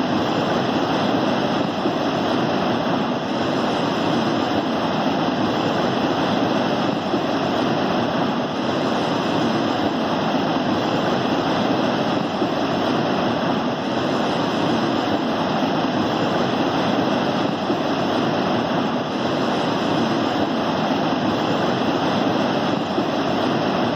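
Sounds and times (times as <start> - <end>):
river water rushing over dam: 0.0 - 23.9.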